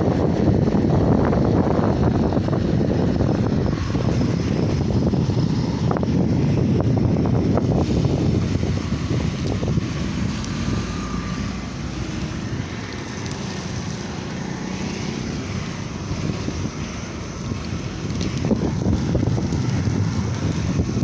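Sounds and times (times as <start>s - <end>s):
tyres rumbling on road: 0.0s - 21.0s
wind rushing over microphone: 0.0s - 21.0s.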